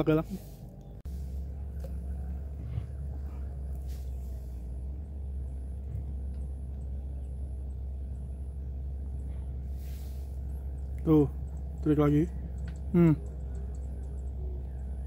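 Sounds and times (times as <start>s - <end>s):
faint even hum: 0.0s - 15.0s
low rumble: 0.4s - 15.0s.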